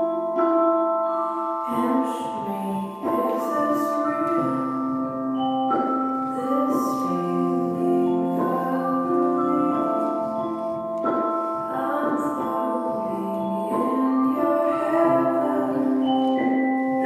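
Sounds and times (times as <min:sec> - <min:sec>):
slow music with held notes: 0:00.0 - 0:17.0
person singing: 0:01.0 - 0:17.0.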